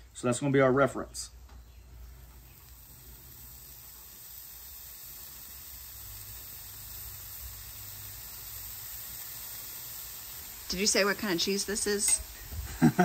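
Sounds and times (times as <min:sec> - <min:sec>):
cheese sizzling on griddle: 0:01.5 - 0:13.0.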